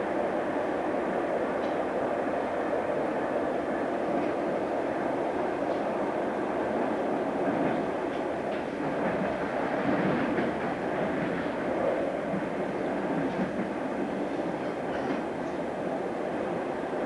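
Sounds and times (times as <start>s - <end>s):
train wheels rumbling on rails: 0.1s - 17.0s.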